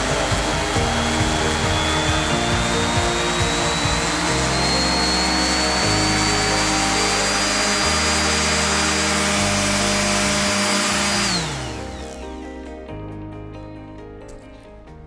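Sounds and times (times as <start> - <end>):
orbital sander whining: 0.0 - 12.2
background music: 0.0 - 15.0.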